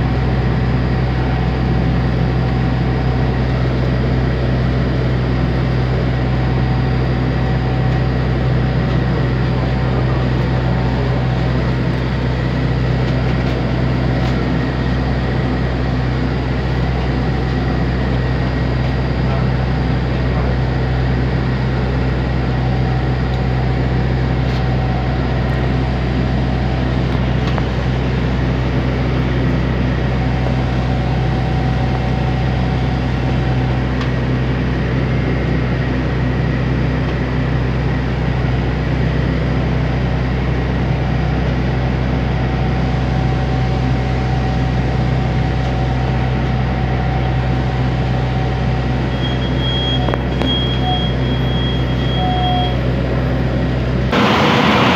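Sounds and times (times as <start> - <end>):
air conditioning: 0.0 - 54.9
bus engine drone: 0.0 - 54.9.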